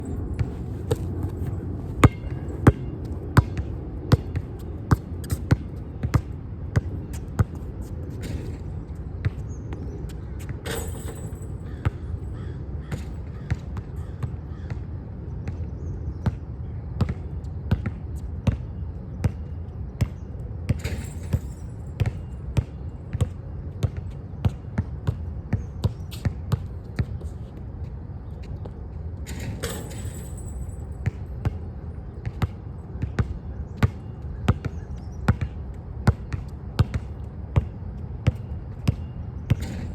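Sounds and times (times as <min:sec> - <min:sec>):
basketball bouncing on court: 0:00.1 - 0:09.8, 0:10.4 - 0:15.6, 0:17.0 - 0:27.3, 0:29.3 - 0:39.9.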